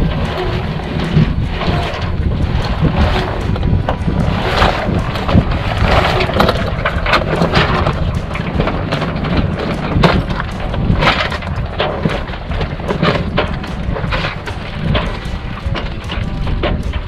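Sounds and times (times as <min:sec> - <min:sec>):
sail and rigging cracks and rattles: 0:00.0 - 0:17.0
wind buffeting microphone: 0:00.0 - 0:17.0.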